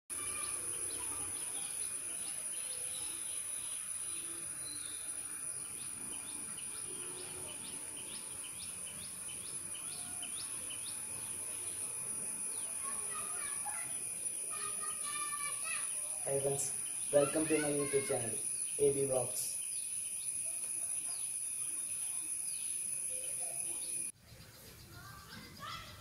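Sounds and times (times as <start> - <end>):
small birds chirping: 0.1 - 26.0.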